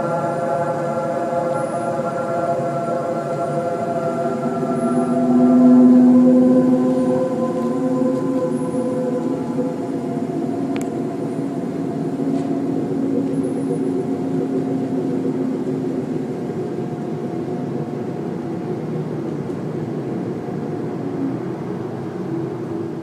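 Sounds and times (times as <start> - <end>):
low droning hum: 0.0 - 23.0
rumbling background: 0.0 - 23.0.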